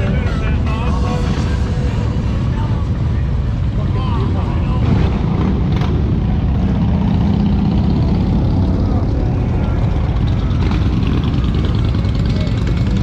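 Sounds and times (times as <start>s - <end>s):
faint crowd voices: 0.0s - 13.0s
motorcycle engines rumbling: 0.0s - 13.0s.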